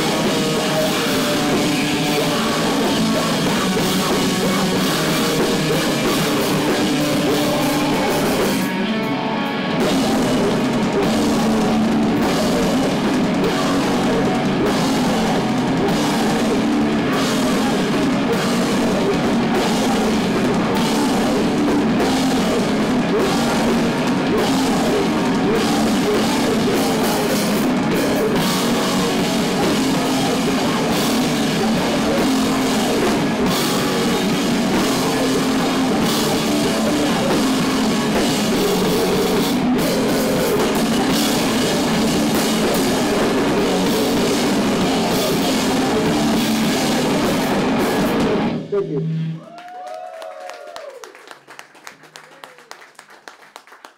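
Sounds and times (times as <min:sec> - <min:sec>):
heavy rock band playing live: 0:00.0 - 0:49.4.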